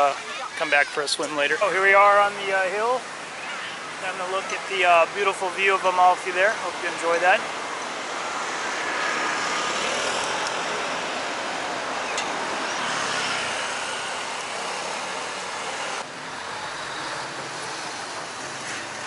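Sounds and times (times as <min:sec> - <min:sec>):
road traffic rushing past: 0:00.0 - 0:19.0.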